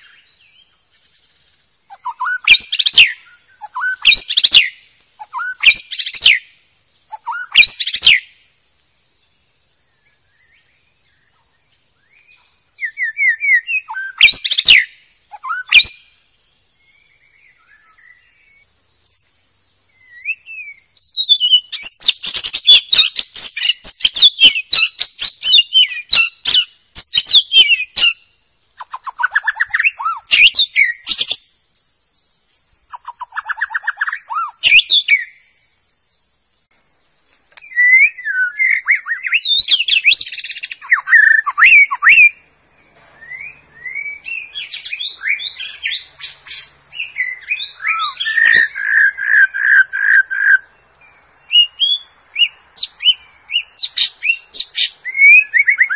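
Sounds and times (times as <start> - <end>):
shama bird singing: 0.0 - 36.4, 37.0 - 55.9.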